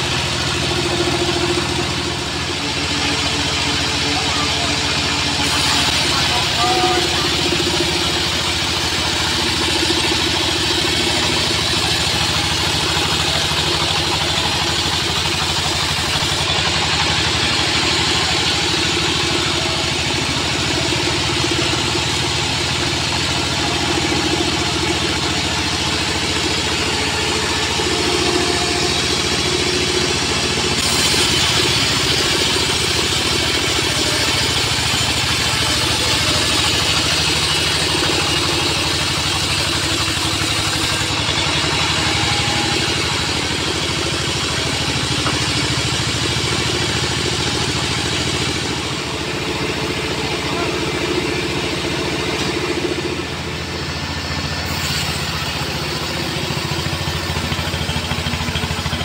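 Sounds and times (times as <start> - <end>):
bandsaw cutting a log: 2.5 - 48.9, 54.4 - 59.0.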